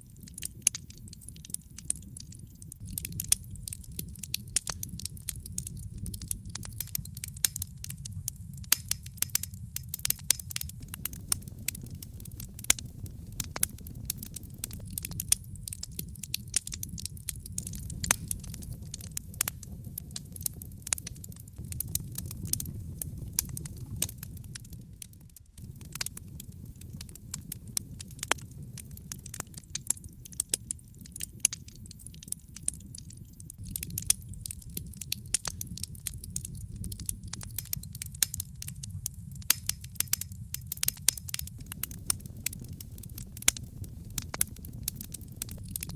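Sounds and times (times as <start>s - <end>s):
wood fire crackling and popping: 0.0s - 45.9s
low steady rumble: 2.8s - 31.0s, 33.5s - 45.9s.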